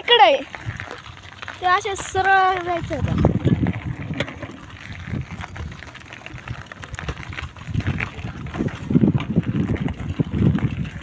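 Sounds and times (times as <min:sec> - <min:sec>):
wind buffeting microphone: 0:00.4 - 0:11.0.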